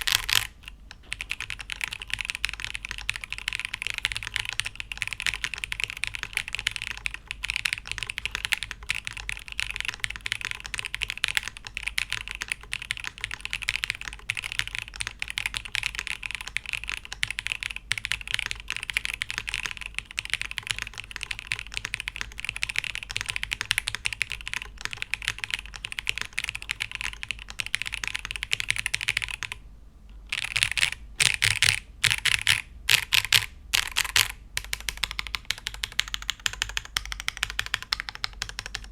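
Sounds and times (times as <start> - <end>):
mechanical keyboard typing: 0.0 - 29.6, 30.3 - 38.9.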